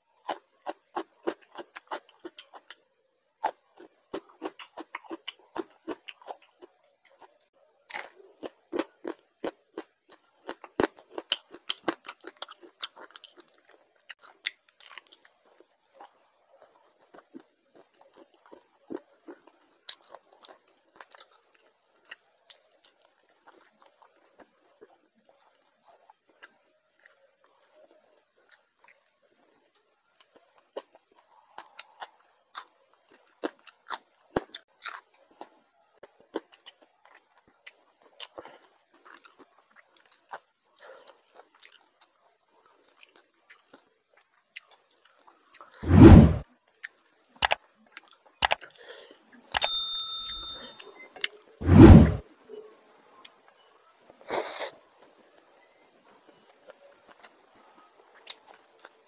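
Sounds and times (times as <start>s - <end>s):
person chewing and crunching: 0.1s - 2.8s, 3.4s - 29.4s, 30.1s - 45.8s, 46.8s - 49.6s, 56.3s - 59.0s.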